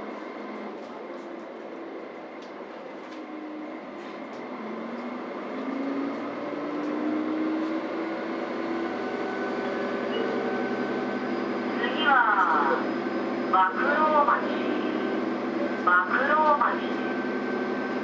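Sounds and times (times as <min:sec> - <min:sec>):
diesel railcar engine running: 0:00.0 - 0:18.0.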